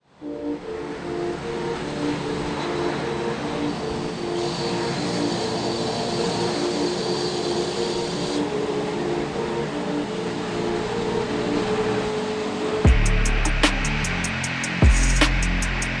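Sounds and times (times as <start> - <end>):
airliner engine noise: 0.1 - 16.0
thin high whine: 0.3 - 16.0.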